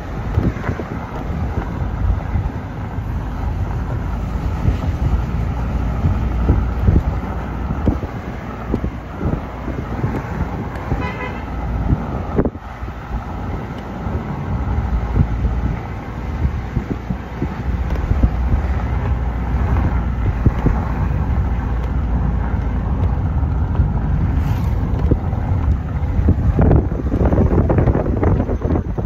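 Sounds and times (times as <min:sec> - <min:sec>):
car road noise: 0:00.0 - 0:29.0
wind buffeting microphone: 0:00.0 - 0:29.0.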